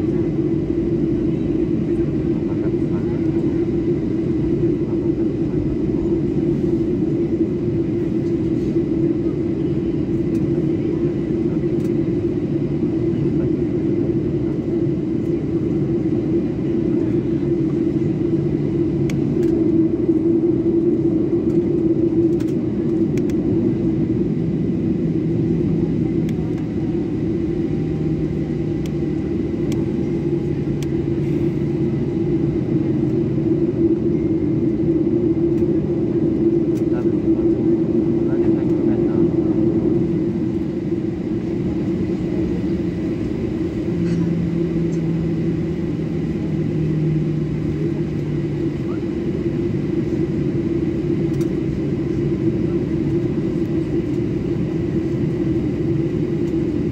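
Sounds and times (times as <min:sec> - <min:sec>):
jet engine drone in cabin: 0:00.0 - 0:56.9.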